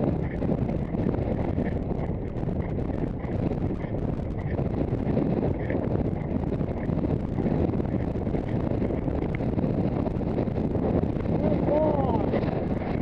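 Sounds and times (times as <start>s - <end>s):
faint hoofbeats: 0.0s - 10.6s
wind rumbling on microphone: 0.0s - 13.0s.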